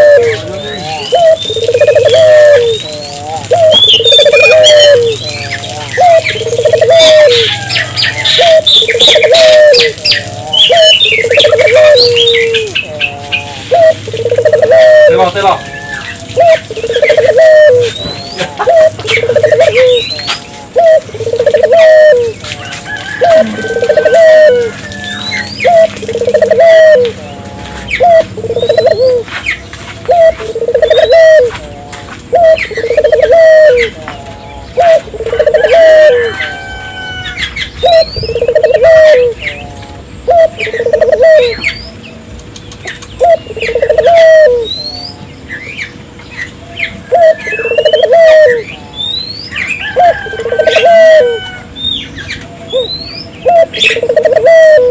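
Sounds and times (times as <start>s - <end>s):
small birds chirping: 0.0s - 36.3s, 37.3s - 54.9s
doves cooing: 0.0s - 54.9s.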